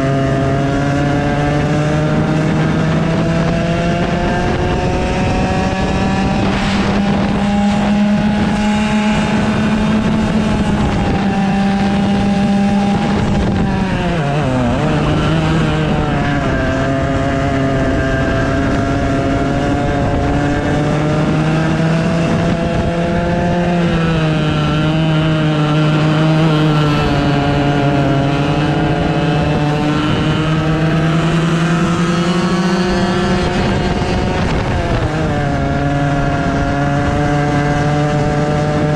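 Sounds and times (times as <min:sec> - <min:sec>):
go-kart engine at high revs: 0:00.0 - 0:38.9.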